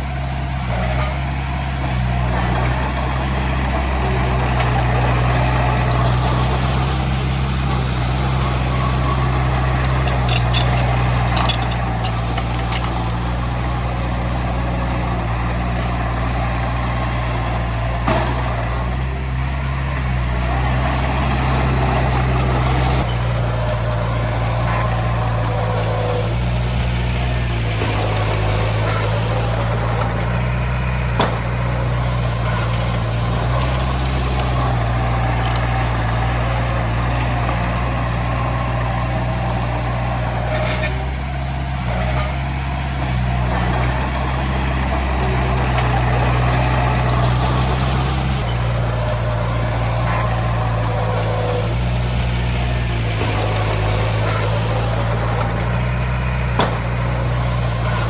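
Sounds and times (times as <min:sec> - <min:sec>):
heavy diesel engine working: 0:00.0 - 0:58.0
sharp metallic clanks: 0:02.0 - 0:15.6, 0:22.0 - 0:58.0.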